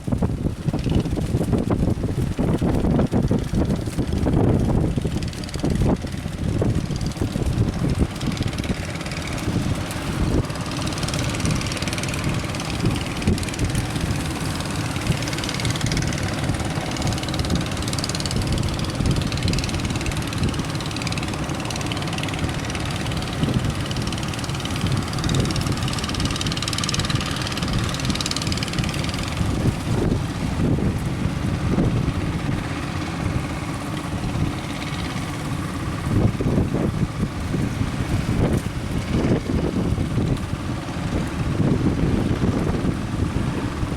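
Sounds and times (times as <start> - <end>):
boat engine running: 0.0 - 43.9
rough sea rushing: 0.0 - 43.9
wind buffeting microphone: 0.0 - 43.9.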